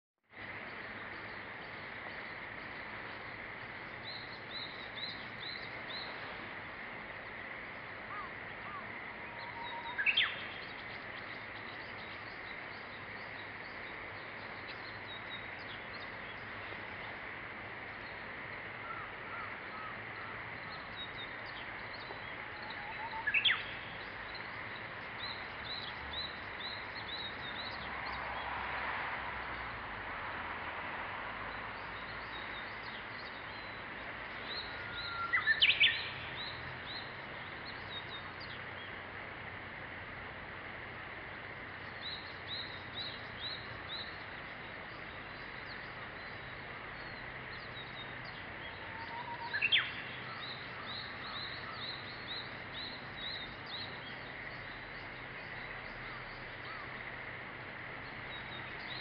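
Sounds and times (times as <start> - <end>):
bush warbler singing: 0.3 - 28.8, 31.4 - 59.0
steady background hiss: 0.3 - 59.0.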